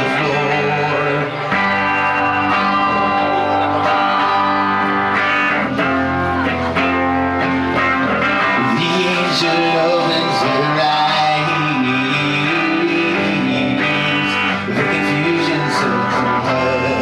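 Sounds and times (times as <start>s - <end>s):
ringing guitar chords: 0.0s - 17.0s
rock band playing: 0.0s - 17.0s.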